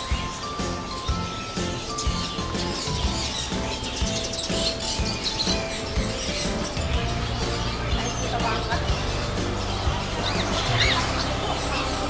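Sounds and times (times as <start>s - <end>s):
music with steady beat and melody: 0.0s - 12.0s.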